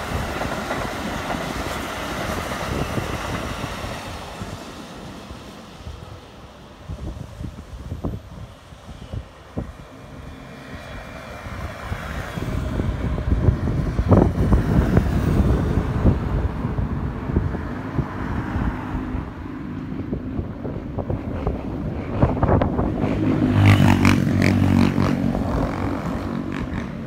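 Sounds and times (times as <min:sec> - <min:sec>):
electric train rumble: 0:00.0 - 0:27.0.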